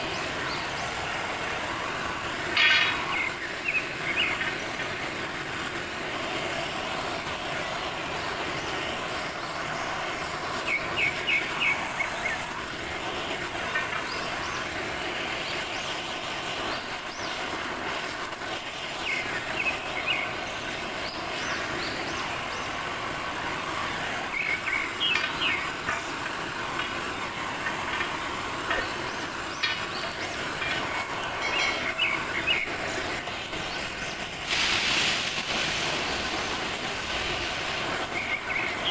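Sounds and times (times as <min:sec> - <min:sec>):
cutting torch flame hissing: 0:00.0 - 0:38.9.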